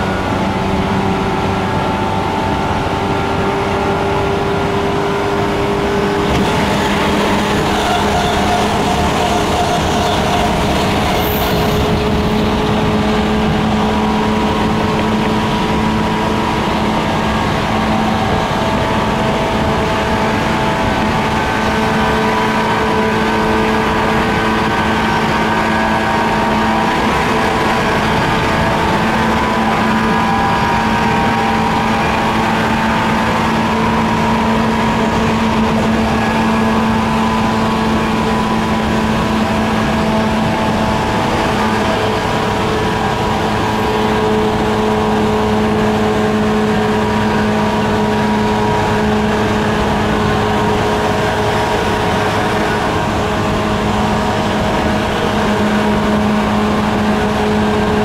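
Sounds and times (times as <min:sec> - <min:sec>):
electric train motor growling hum: 0:04.3 - 0:58.0
wheels on rails: 0:05.5 - 0:58.0.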